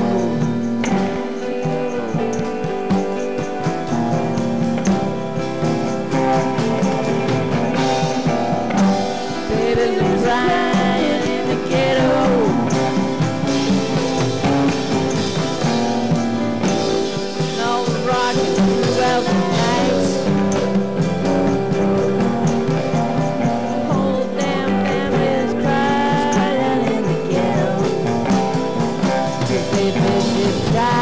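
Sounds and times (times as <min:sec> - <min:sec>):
drums: 0:00.0 - 0:31.0
guitar: 0:00.0 - 0:31.0
pitch-bending melody line: 0:00.0 - 0:31.0.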